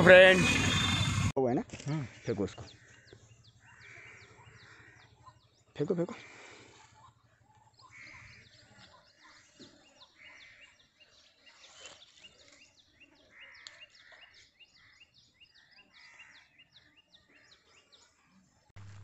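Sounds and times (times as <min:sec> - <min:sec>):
birds chirping: 0:00.0 - 0:18.7.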